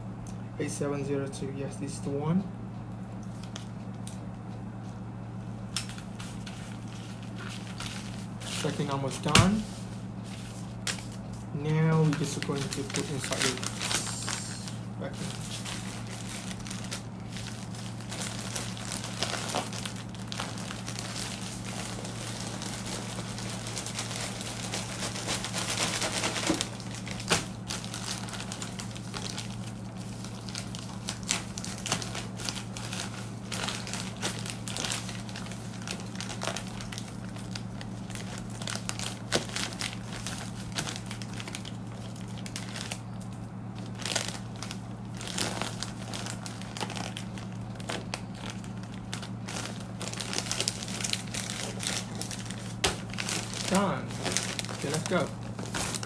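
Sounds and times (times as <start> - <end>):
low hum: 0.0 - 56.0
plastic bag crinkling: 5.8 - 56.0.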